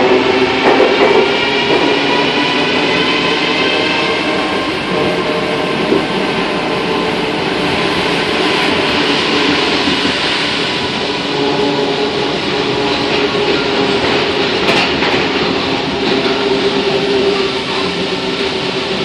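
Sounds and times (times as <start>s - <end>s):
train rolling rumble and hiss: 0.0s - 19.0s.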